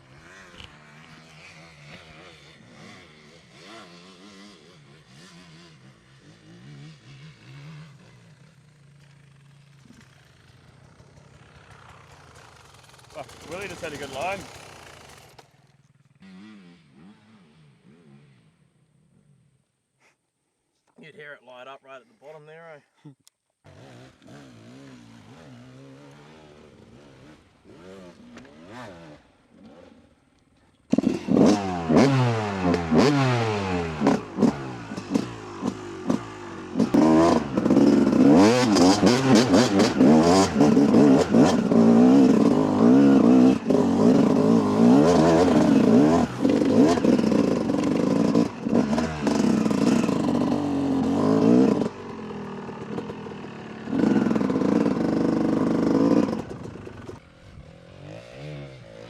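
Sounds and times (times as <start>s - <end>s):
dirt bike engine revving hard: 0.0s - 8.5s, 12.3s - 15.4s, 16.2s - 18.6s, 23.7s - 30.2s, 30.9s - 59.0s
distant dirt bike engine revving: 0.0s - 20.3s, 23.6s - 59.0s.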